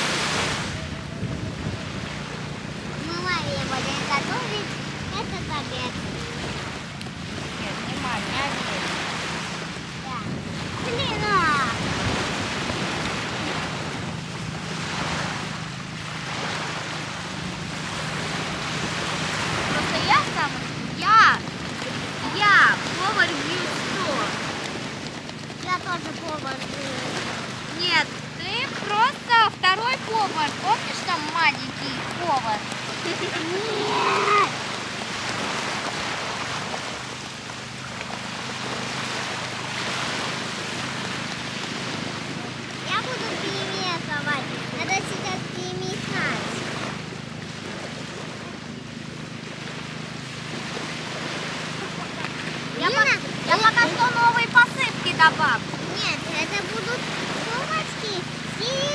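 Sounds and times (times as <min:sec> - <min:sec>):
small waves on sandy beach: 0:00.0 - 0:58.9.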